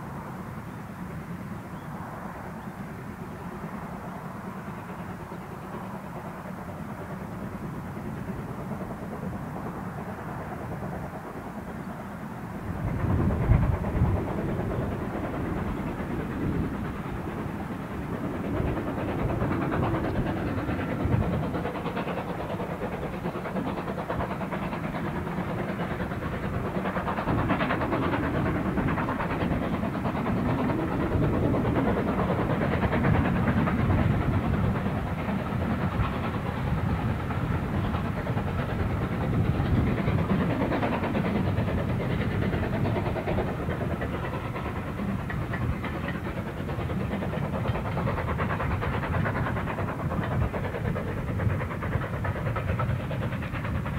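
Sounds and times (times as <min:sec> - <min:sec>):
steam locomotive chuffing: 0:00.0 - 0:53.9
train running: 0:00.0 - 0:53.9.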